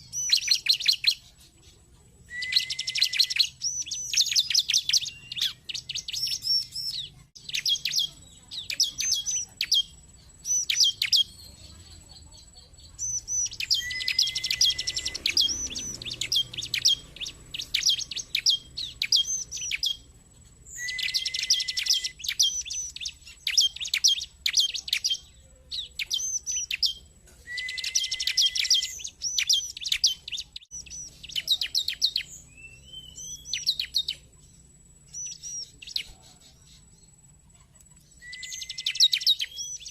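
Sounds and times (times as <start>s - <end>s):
bird chips and trills: 0.0s - 39.9s.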